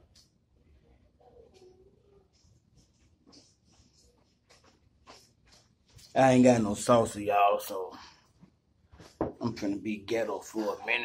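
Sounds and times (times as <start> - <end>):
faint distant noises: 0.0 - 11.0.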